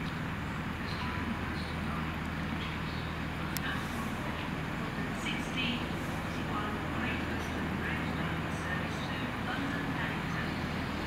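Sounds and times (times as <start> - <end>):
train humming: 0.0 - 11.0.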